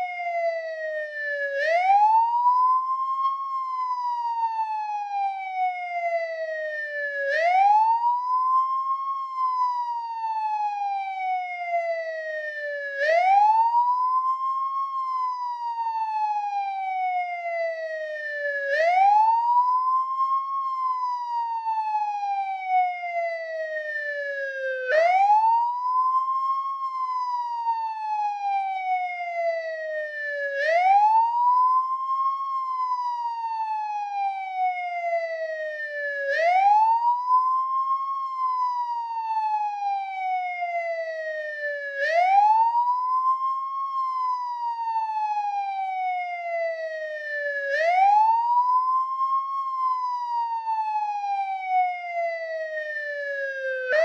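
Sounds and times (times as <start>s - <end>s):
police siren wailing: 0.0s - 54.0s.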